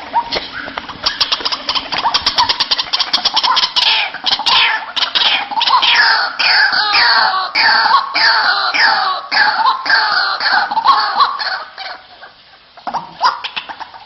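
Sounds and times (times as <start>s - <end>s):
waterhen calling: 0.0s - 14.0s.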